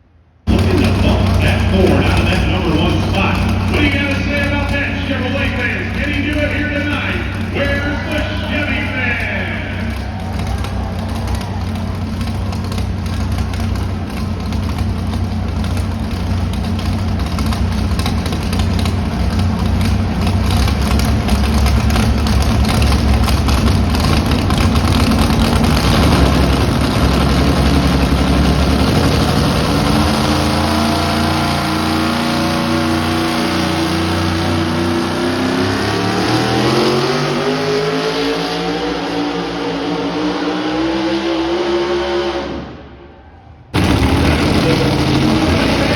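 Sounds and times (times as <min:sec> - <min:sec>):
truck engine at full throttle: 0:00.4 - 0:45.9.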